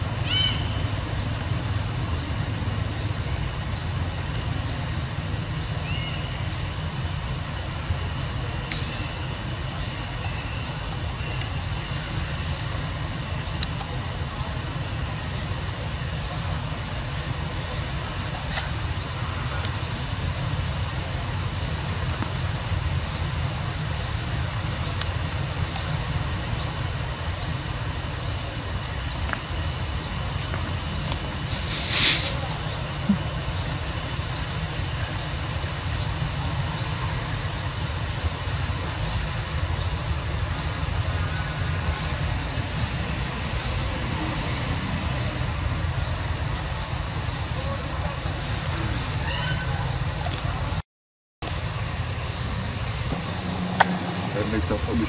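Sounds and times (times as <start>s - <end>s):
even hiss: 0.0s - 49.9s.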